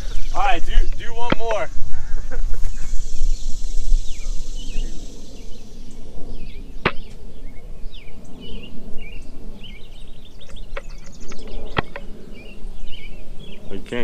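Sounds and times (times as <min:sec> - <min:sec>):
low rumble: 0:00.0 - 0:14.0
songbirds chirping: 0:00.0 - 0:14.0.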